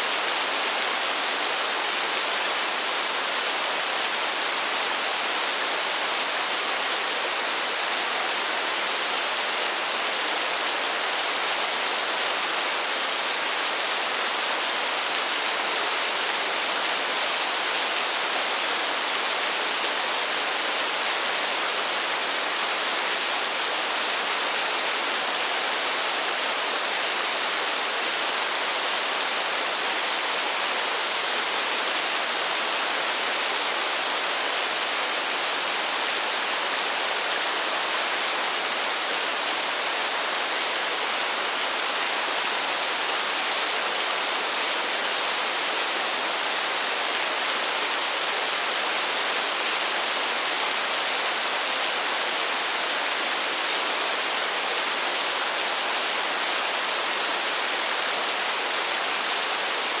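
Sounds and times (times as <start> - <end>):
steady rain hiss: 0.0 - 60.0.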